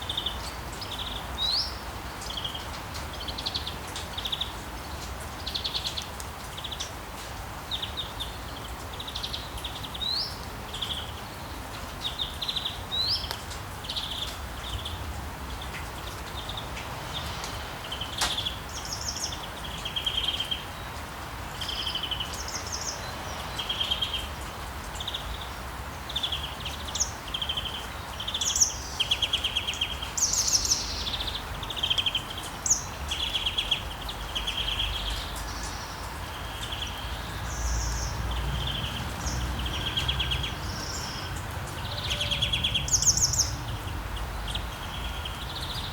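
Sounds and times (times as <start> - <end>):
songbirds chirping in trills: 7.6 - 45.9.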